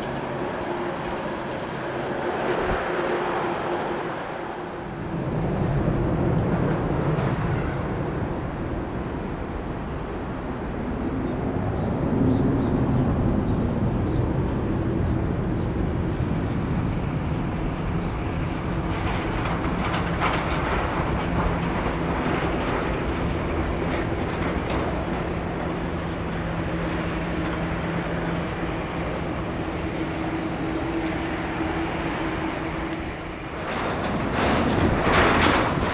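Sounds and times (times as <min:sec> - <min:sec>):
jet engines running: 0:00.0 - 0:35.9
wind on microphone: 0:00.0 - 0:35.9.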